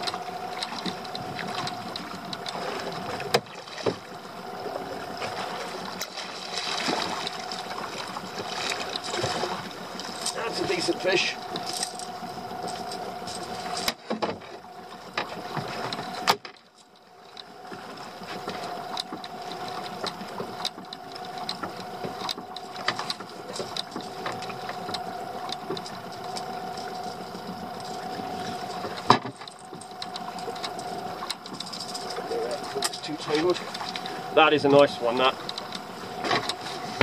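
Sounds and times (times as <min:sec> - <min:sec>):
boat engine idling: 0:00.0 - 0:37.0.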